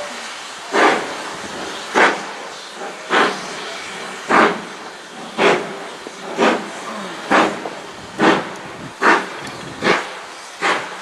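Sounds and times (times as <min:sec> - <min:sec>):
steady steam hiss: 0:00.0 - 0:11.0
steam locomotive chuffing: 0:00.0 - 0:11.0.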